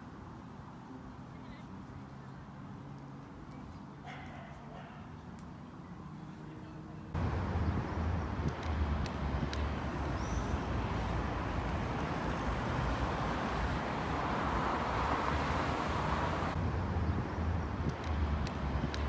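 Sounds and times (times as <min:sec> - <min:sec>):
passing traffic: 0:00.0 - 0:19.0.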